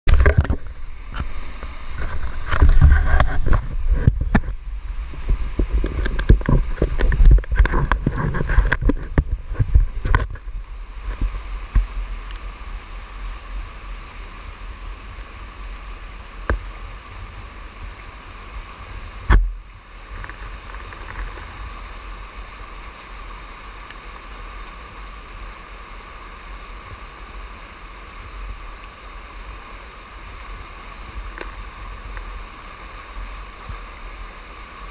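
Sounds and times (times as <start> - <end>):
river whitewater rushing: 0.1 - 34.9.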